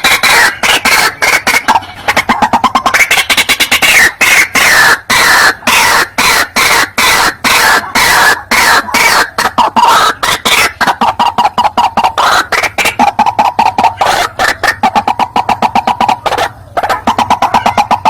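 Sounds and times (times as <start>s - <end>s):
waterhen calling harsh croaks: 0.0s - 18.0s.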